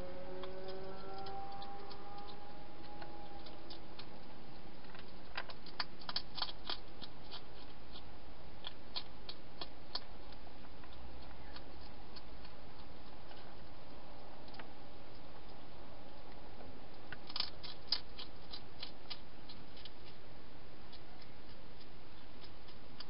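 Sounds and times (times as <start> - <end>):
hedgehog eating clicks: 0.4 - 20.2, 20.8 - 23.0.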